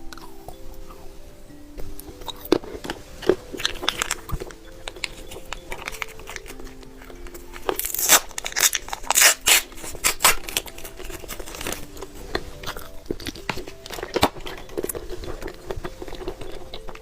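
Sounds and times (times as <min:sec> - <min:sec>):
plastic wrapper tearing and crinkling: 0:02.0 - 0:17.0.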